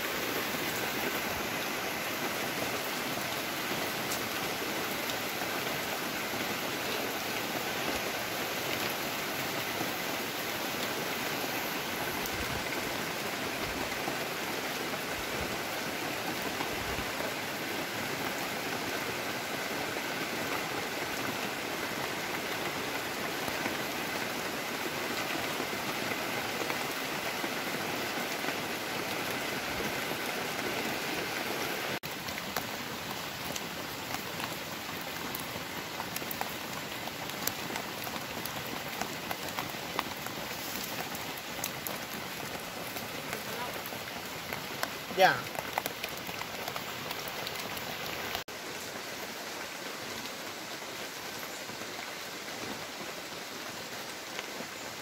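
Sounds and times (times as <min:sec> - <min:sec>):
rain on broad leaves: 0:00.0 - 0:55.0.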